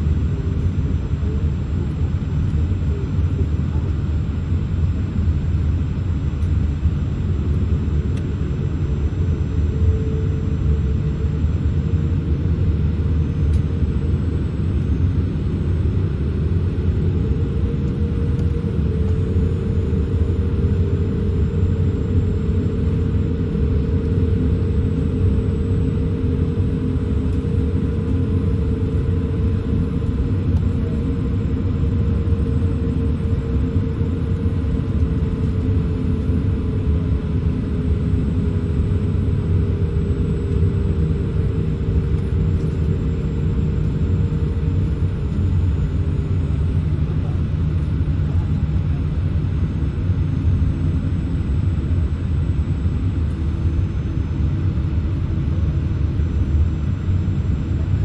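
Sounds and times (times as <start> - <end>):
airplane cabin rumble while taxiing: 0.0 - 58.0.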